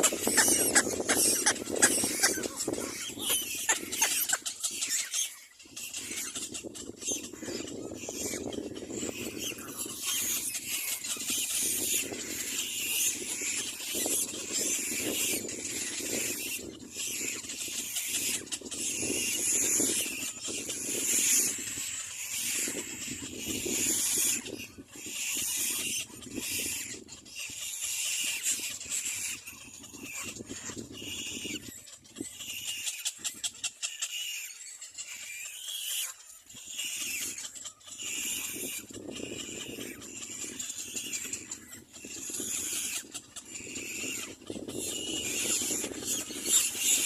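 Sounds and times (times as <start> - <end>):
cormorant chicks squealing: 0.0 - 47.0.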